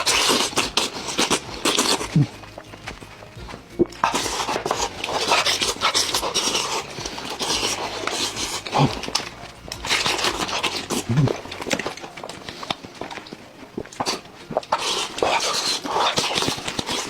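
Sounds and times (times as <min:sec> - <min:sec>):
wet chewing and smacking: 0:00.0 - 0:17.0.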